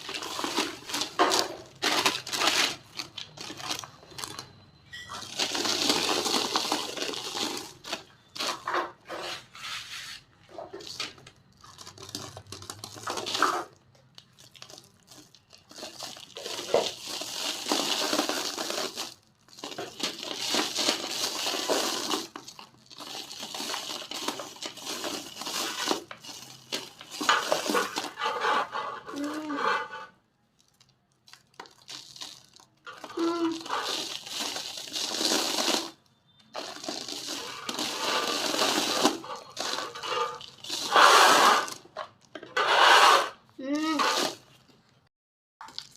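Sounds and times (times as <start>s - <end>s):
dry cement crumbling and crunching: 0.0s - 42.6s, 45.6s - 45.9s.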